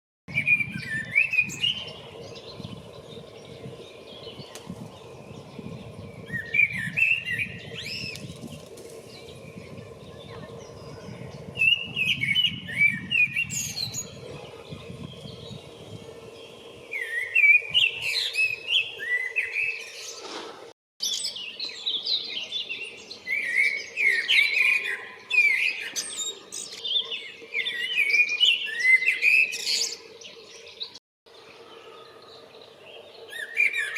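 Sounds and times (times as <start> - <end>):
blackbird singing: 0.3 - 20.2, 21.0 - 33.9.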